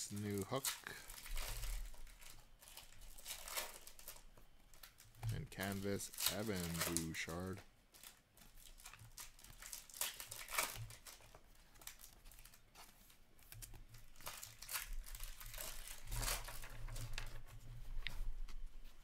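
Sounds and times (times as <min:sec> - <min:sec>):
trading cards rustling and scraping: 0:00.2 - 0:19.0.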